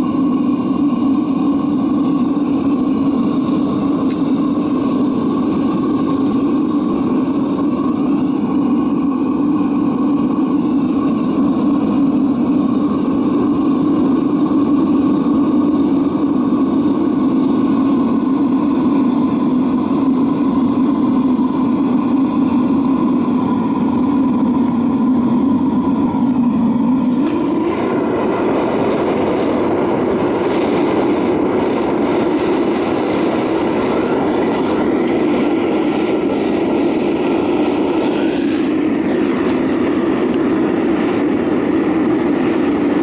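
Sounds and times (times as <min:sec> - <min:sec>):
furnace burner roaring: 0:00.0 - 0:43.0.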